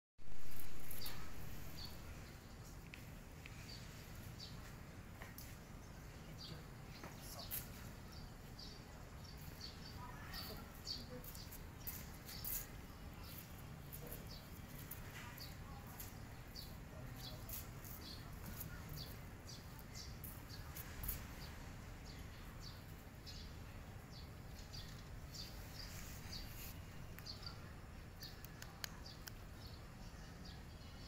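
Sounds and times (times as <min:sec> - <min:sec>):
small birds chirping: 0:00.2 - 0:31.0.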